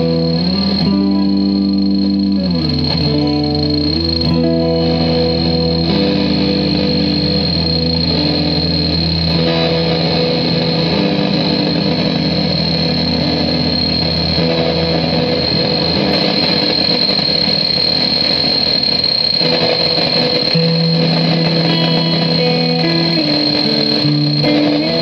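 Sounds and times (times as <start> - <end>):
electric guitar with droning delay: 0.0 - 25.0
steady high whine: 0.0 - 25.0.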